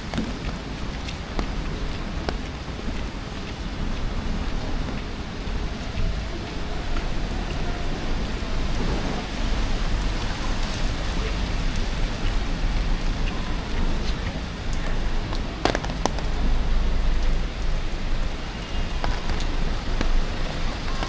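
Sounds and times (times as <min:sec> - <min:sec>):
sharp ticks of raindrops: 0:00.0 - 0:21.0
steady rain on street: 0:00.0 - 0:21.0.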